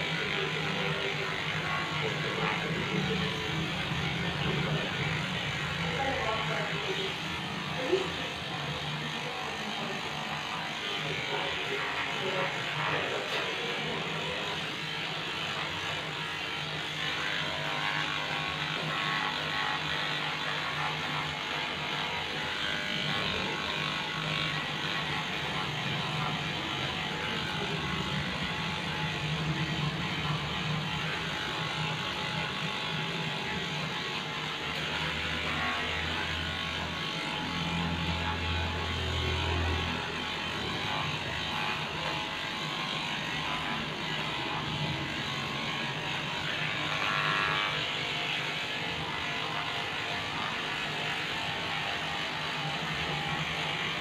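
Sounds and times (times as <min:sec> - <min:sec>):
electric clipper running: 0:00.0 - 0:54.0.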